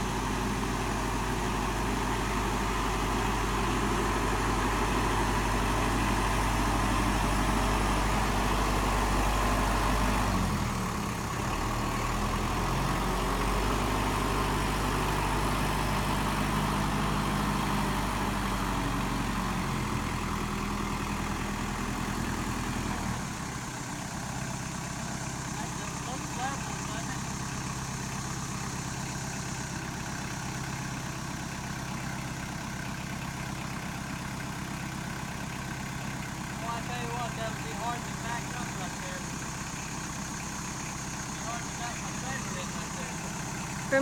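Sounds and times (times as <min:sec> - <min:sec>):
diesel tractor engine running: 0:00.0 - 0:44.0.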